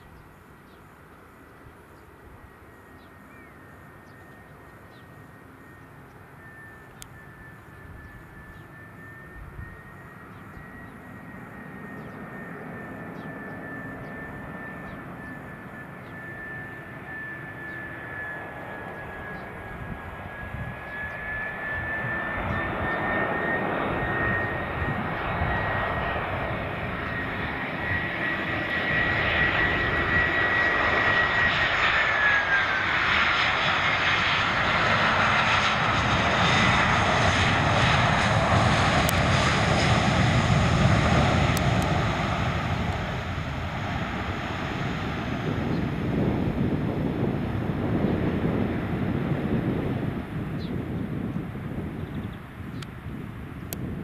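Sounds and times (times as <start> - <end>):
jet engine rumble: 0.0 - 54.0
jet engine whine: 0.0 - 54.0.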